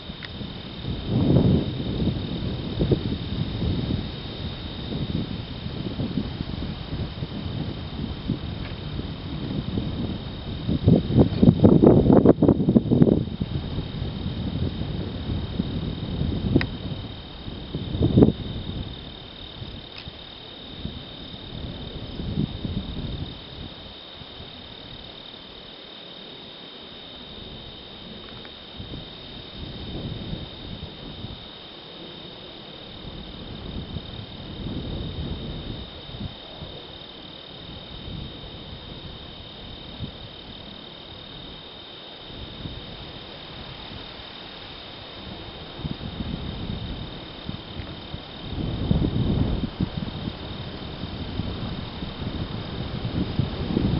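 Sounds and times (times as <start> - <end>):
wind buffeting microphone: 0.0 - 25.5, 27.3 - 31.6, 32.3 - 53.9
insect chorus: 0.0 - 53.9.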